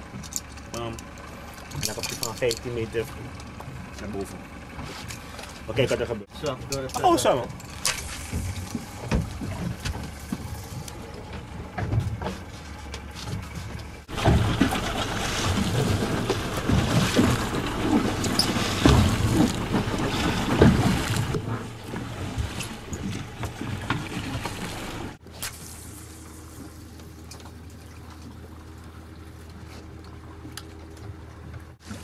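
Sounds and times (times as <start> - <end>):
steady low hum: 0.0 - 32.0
water sloshing around a boat: 0.0 - 32.0.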